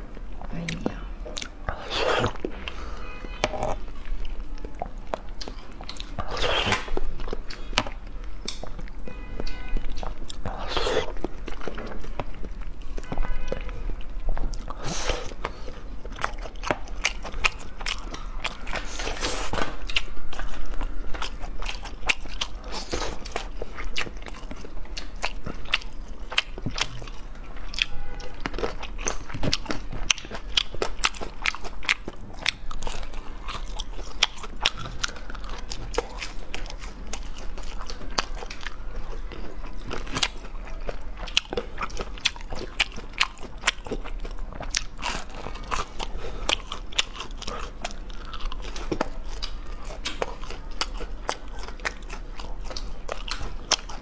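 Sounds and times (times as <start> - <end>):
crunching and chewing fried food: 0.0 - 54.0.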